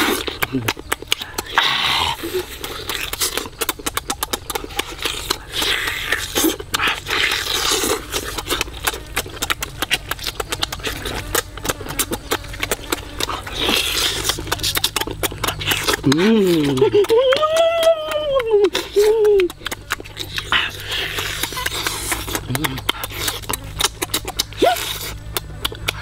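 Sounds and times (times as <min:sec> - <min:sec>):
person chewing and lip-smacking: 0:00.0 - 0:26.0.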